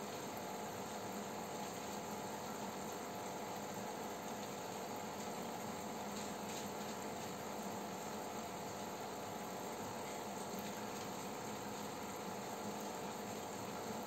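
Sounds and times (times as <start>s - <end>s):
aquarium air pump humming: 0.0s - 14.0s.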